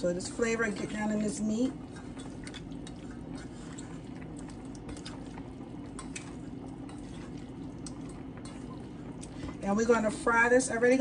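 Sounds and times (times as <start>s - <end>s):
hands kneading wet meat: 0.2s - 9.6s.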